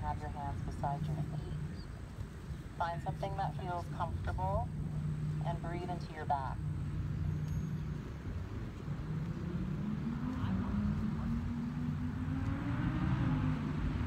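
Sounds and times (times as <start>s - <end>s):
motor engine humming: 0.0s - 14.0s.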